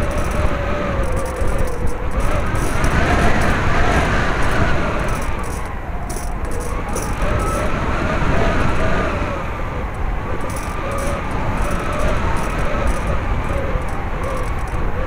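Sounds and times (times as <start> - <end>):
model airplane motor whining: 0.0 - 7.8, 9.8 - 15.0
wind rumble on microphone: 0.0 - 15.0.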